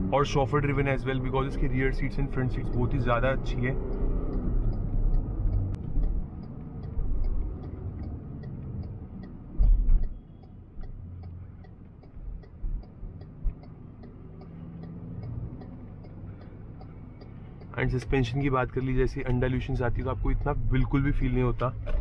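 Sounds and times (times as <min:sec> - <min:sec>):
engine and road rumble: 0:00.0 - 0:22.0
fast light ticking: 0:00.8 - 0:21.8.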